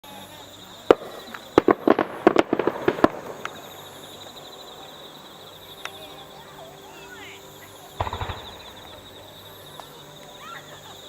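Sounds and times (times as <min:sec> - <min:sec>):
fireworks bangs: 0:00.8 - 0:10.3.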